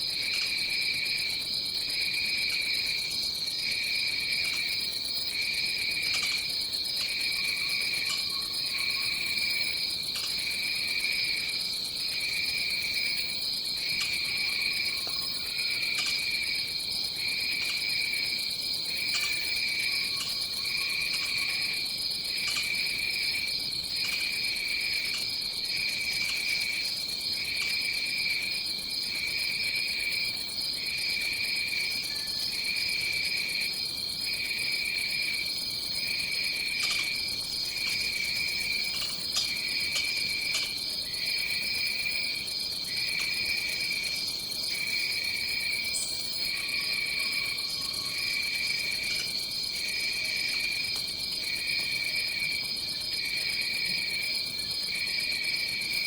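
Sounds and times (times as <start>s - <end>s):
lower pulsing insect trill: 0.0s - 56.0s.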